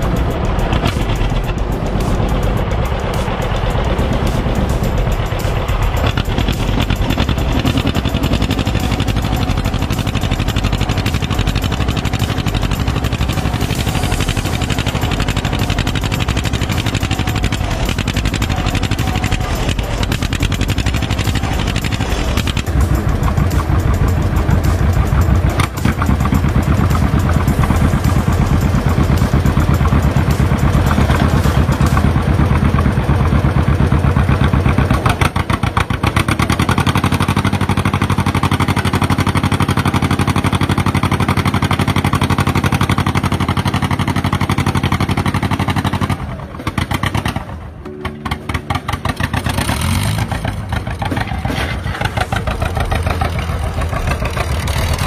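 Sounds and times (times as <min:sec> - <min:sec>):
tractor engines running hard: 0:00.0 - 0:55.0.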